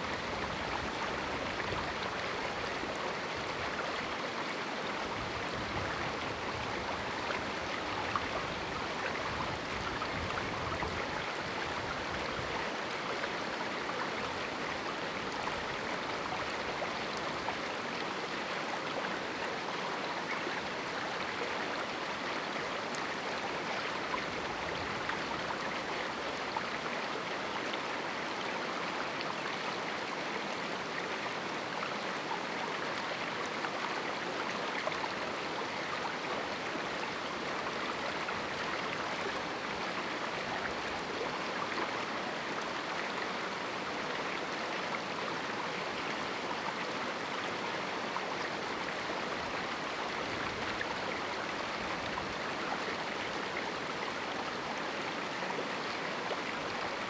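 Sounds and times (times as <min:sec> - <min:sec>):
river running over rocks: 0:00.0 - 0:57.0.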